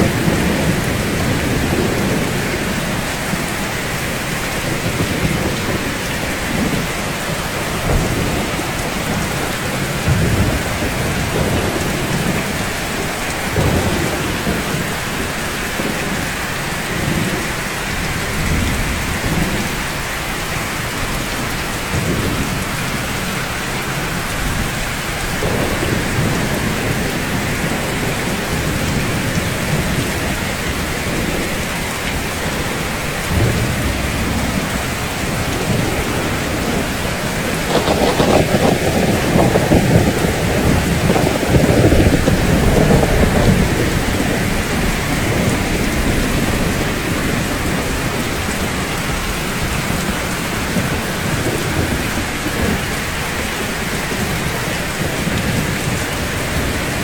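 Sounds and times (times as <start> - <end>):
rain on rooftops: 0.0 - 57.0.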